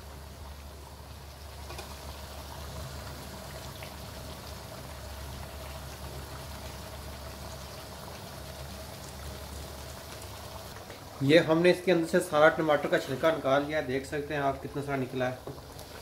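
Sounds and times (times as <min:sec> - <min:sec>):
food simmering bubbling hiss: 0:00.0 - 0:16.0.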